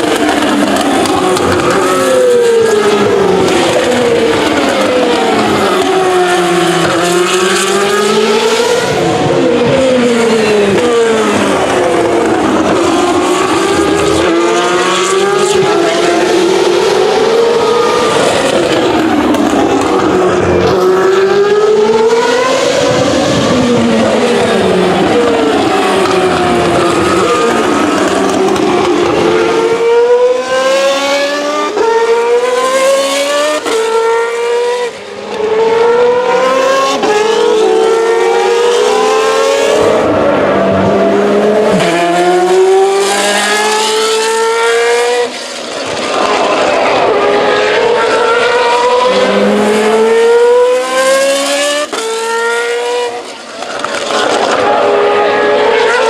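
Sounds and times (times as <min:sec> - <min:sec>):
race car engine upshifting: 0:00.0 - 0:56.0.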